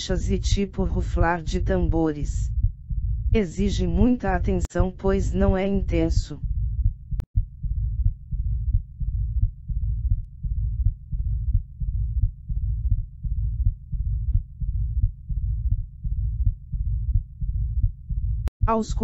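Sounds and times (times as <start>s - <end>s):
heartbeat with low rumbling murmur: 0.0s - 18.5s.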